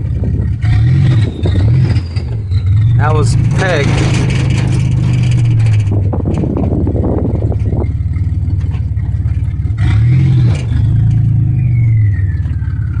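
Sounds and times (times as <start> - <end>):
car engine idling rough: 0.0 - 13.0.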